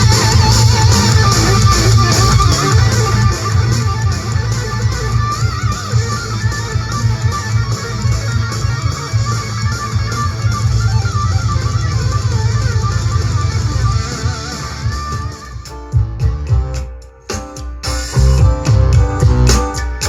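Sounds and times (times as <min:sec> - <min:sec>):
guitar music with strong bass: 0:00.0 - 0:20.0.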